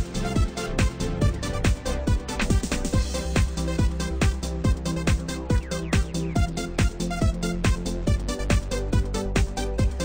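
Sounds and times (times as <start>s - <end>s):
electronic dance music: 0.0s - 10.0s
kick drum beat: 0.0s - 10.0s.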